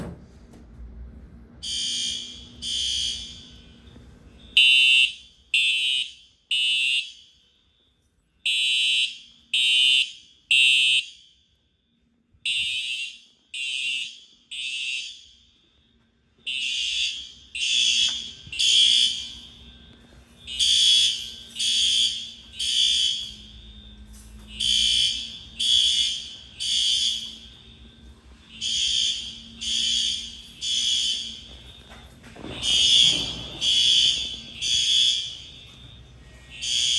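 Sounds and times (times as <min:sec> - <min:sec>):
fire alarm high-pitched beeps: 0:01.6 - 0:36.9.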